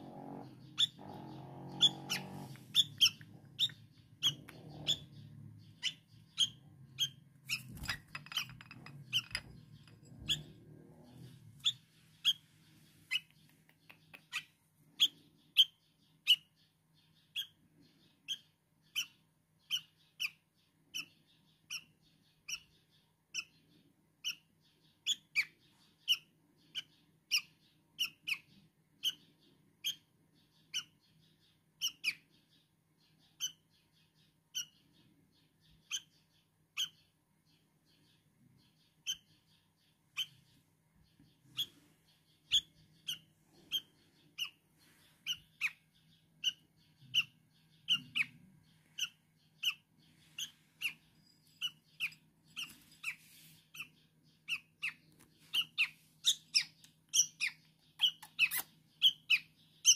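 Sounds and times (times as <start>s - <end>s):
young bird chirping: 0.0s - 59.9s.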